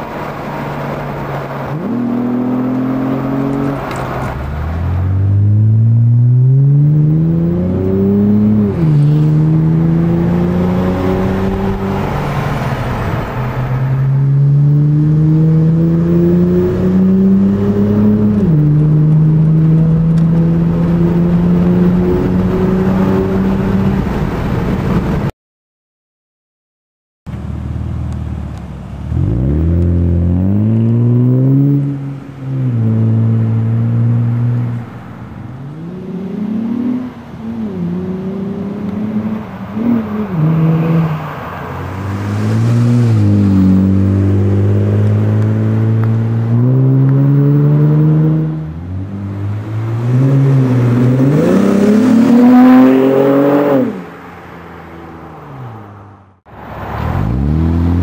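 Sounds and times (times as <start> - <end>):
car engine revving: 0.0 - 25.1, 27.7 - 58.0.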